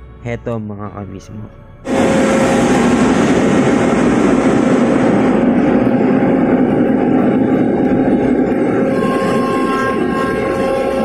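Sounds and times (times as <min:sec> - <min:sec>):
hydraulic crane machinery running: 0:01.9 - 0:11.0.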